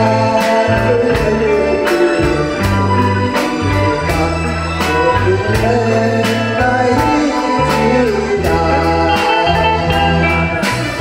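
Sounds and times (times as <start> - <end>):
karaoke backing track: 0.0 - 11.0
man singing into a microphone: 0.0 - 11.0.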